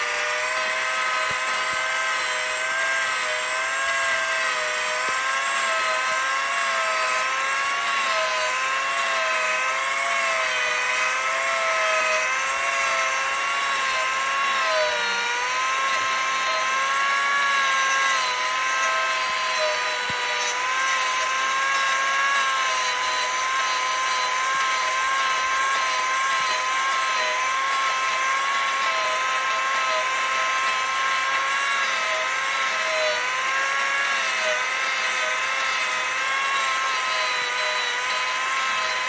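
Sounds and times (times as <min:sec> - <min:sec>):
angle grinder cutting wood: 0:00.0 - 0:39.0.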